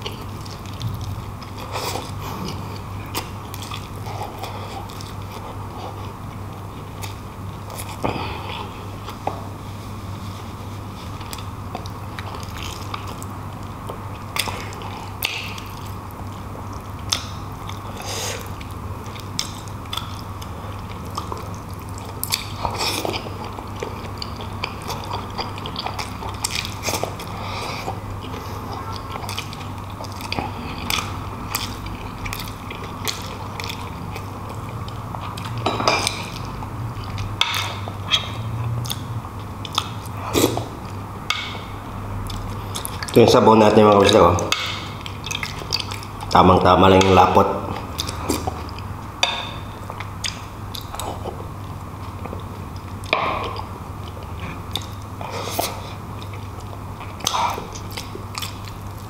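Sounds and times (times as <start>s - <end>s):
steady low hum: 0.0s - 59.0s
wet chewing of meat: 11.0s - 59.0s.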